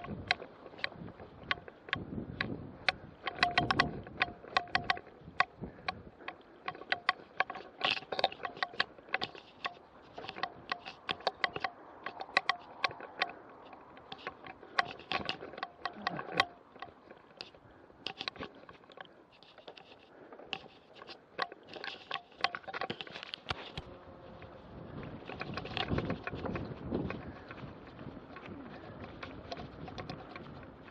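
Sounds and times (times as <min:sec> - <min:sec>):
mountain bike chain and frame clatter: 0:00.0 - 0:30.9.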